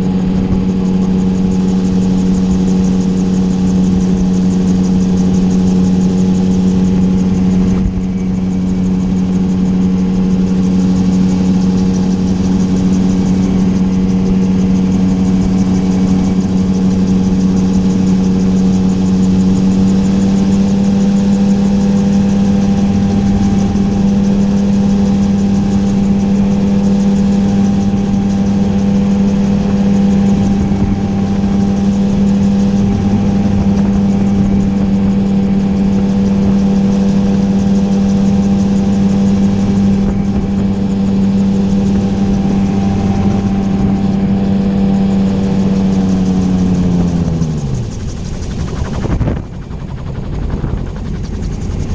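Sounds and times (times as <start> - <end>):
gyroplane engine and propeller hum: 0.0 - 51.9.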